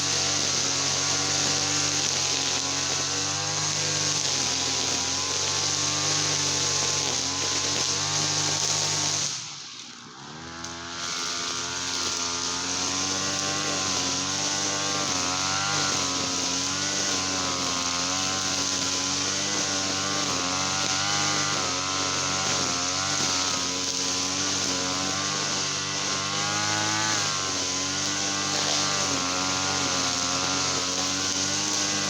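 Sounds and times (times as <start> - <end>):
two-stroke petrol engine running: 0.0 - 32.0.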